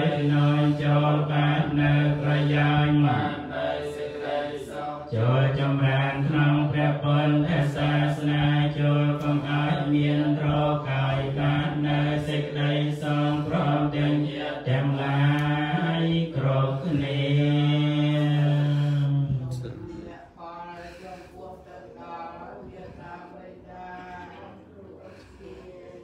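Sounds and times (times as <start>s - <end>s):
monks chanting in unison: 0.0s - 26.0s.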